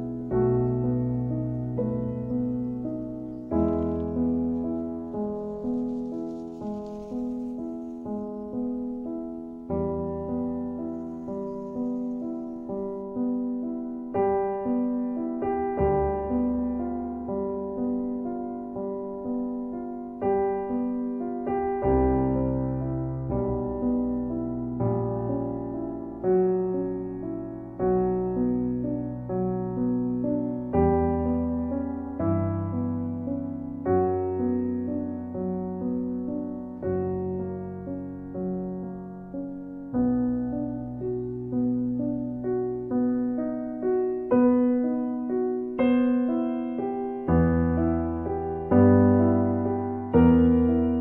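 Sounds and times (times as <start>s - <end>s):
slow piano chords: 0.0s - 51.0s.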